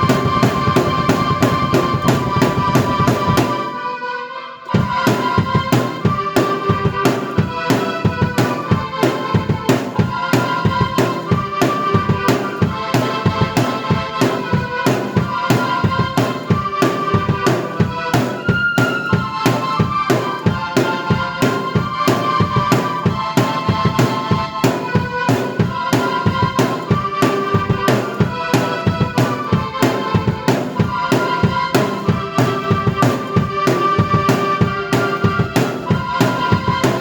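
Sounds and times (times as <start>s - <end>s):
drum beat: 0.0s - 3.8s, 4.8s - 37.0s
sustained keyboard melody: 0.0s - 37.0s.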